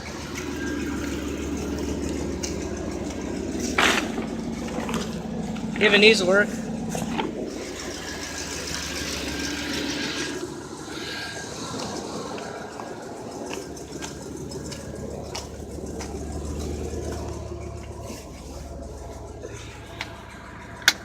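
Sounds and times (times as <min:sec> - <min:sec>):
pickup engine idling: 0:00.0 - 0:21.0.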